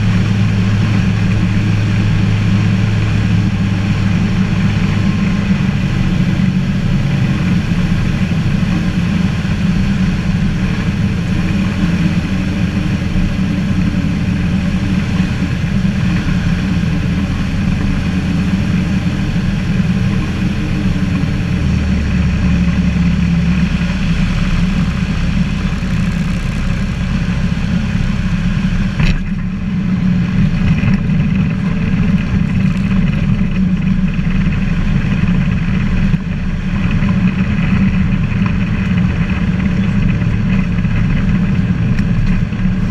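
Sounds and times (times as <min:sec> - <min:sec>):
light aircraft engine droning: 0:00.0 - 0:42.9.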